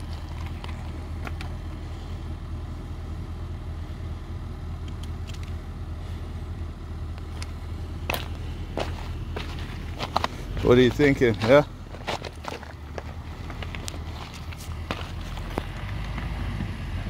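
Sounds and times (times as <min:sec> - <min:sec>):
suv engine droning: 0:00.0 - 0:17.0.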